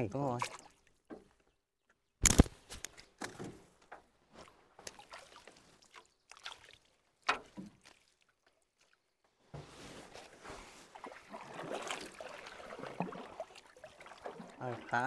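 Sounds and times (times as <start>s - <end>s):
water splashing and sloshing: 0.0s - 1.8s, 2.4s - 15.0s.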